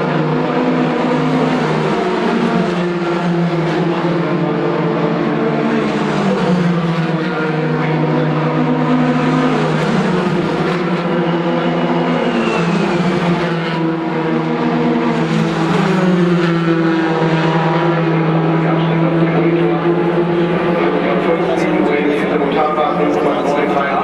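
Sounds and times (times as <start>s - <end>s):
falling engine whine: 0.0s - 24.0s
race car engines running: 0.0s - 24.0s.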